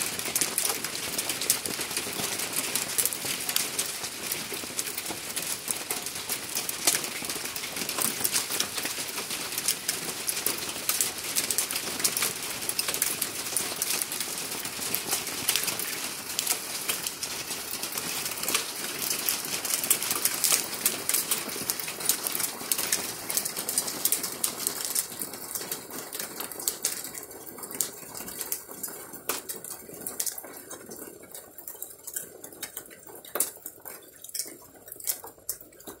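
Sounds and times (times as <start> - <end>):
hail rattling on hard surfaces: 0.0 - 36.0.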